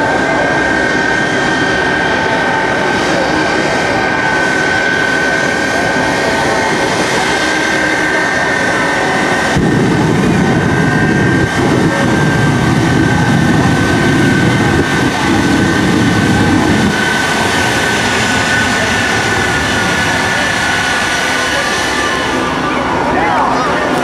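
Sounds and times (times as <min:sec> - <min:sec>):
high turbine whine: 0:00.0 - 0:24.0
jet engine afterburner blast: 0:00.0 - 0:24.0.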